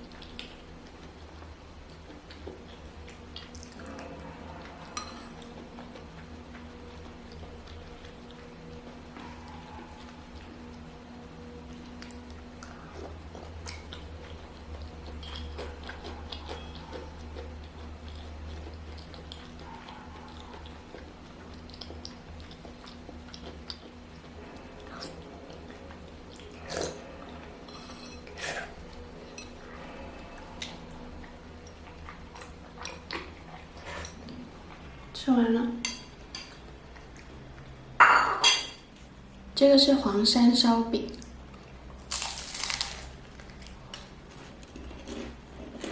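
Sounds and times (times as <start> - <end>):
person chewing food: 0.0 - 35.1, 41.3 - 45.9
steady low hum: 0.0 - 45.9.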